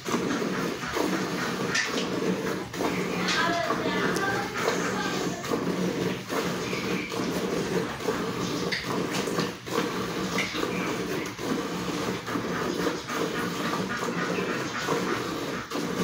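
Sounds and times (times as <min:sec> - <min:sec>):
milk squirting into a pail: 0:00.0 - 0:16.0.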